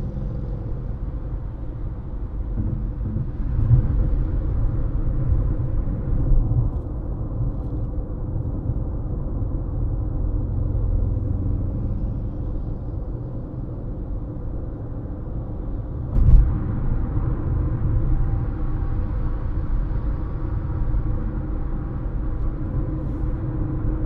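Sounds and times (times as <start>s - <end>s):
car road and tyre rumble: 0.0s - 24.0s.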